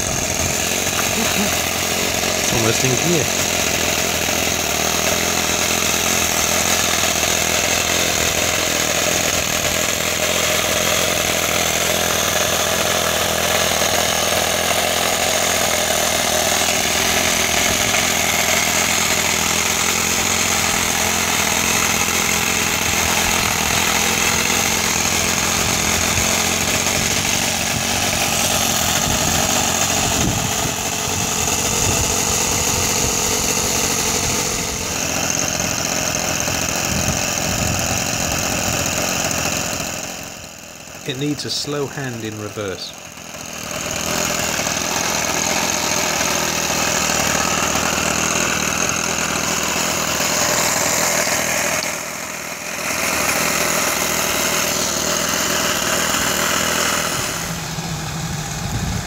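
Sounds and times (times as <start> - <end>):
model engine running: 0.0 - 59.0.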